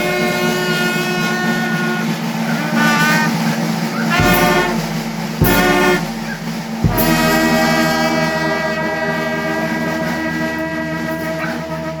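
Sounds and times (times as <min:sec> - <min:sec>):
drum and cymbal hit: 0:00.0 - 0:11.5
brass band playing: 0:00.0 - 0:12.0.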